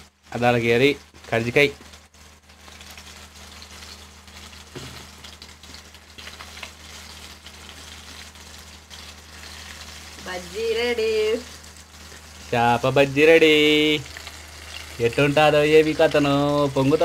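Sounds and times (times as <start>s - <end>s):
fish fritters sizzling in oil: 0.0s - 17.0s.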